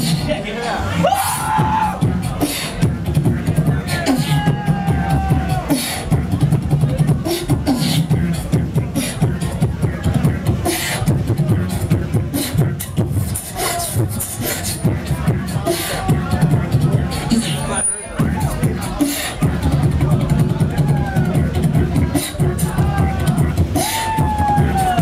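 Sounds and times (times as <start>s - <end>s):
beatboxing into microphone: 0.0s - 25.0s.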